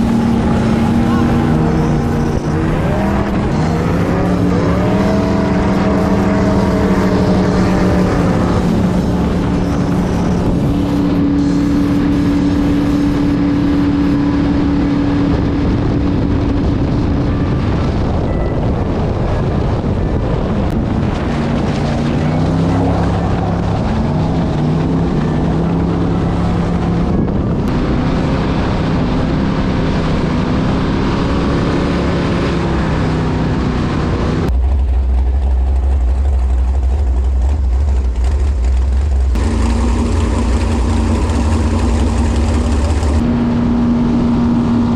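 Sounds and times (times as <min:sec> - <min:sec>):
boat engine revving: 0:00.0 - 0:44.9.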